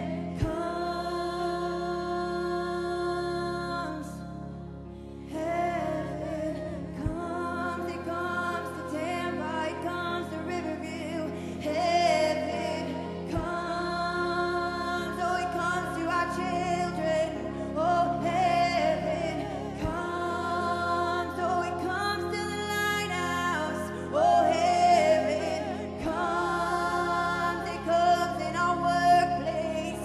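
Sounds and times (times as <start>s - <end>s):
women singing through microphones: 0.0s - 4.4s, 5.2s - 30.0s
sustained instrumental backing: 0.0s - 30.0s.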